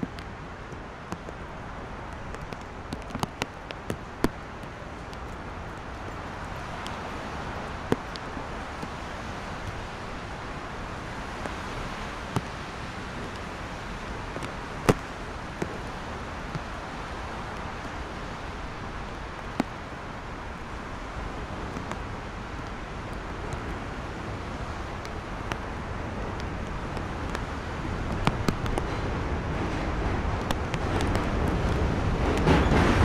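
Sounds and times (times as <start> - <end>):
expressway traffic: 0.0 - 33.0
rain: 0.0 - 33.0.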